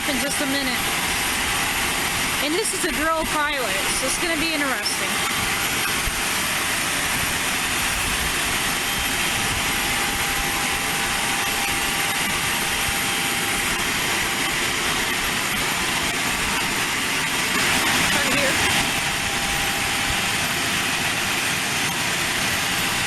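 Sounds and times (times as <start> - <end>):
aircraft turbine rush and whine: 0.0 - 23.0.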